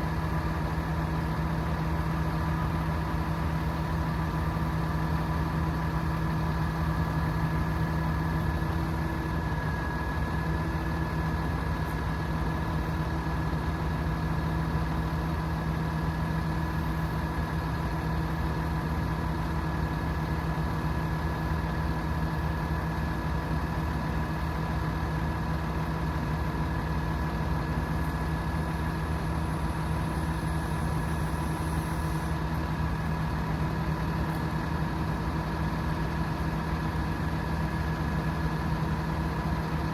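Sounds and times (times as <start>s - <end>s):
constant high whine: 0.0s - 39.9s
diesel truck engine idling: 0.0s - 39.9s.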